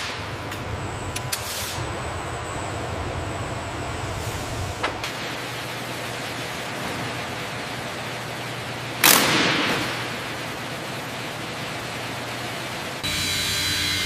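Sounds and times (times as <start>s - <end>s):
hissing workshop ambience: 0.0s - 14.0s.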